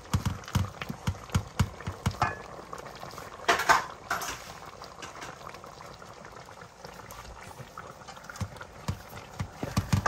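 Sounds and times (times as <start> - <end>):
sauce simmering: 0.0 - 10.0.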